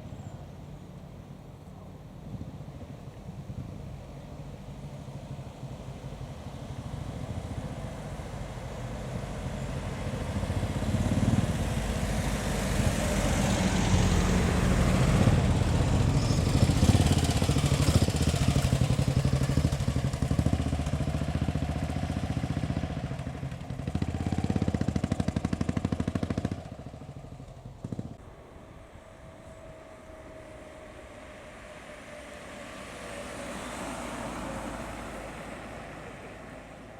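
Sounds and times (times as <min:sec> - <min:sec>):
car engines driving past: 0:00.0 - 0:36.9.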